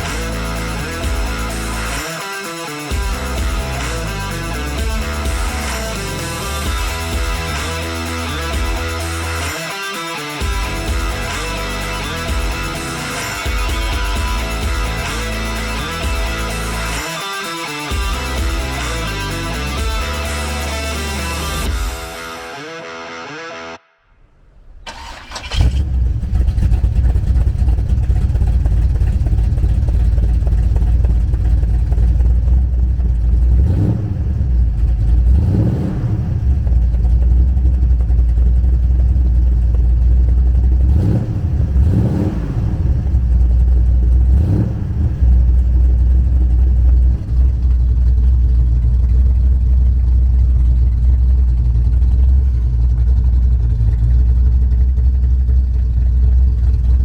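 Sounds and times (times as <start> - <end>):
engine idling with throttle blips: 0.0 - 22.3, 24.8 - 57.0.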